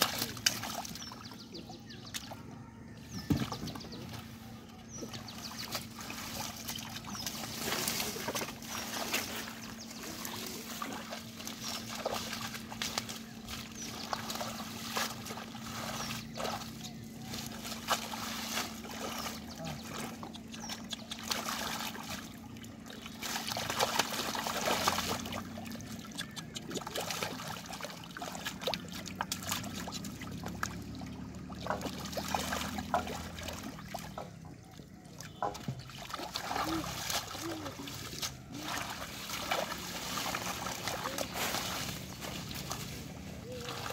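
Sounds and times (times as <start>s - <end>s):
hands splashing in muddy water: 0.0s - 1.4s, 3.1s - 43.9s
water dribbling: 0.0s - 43.9s.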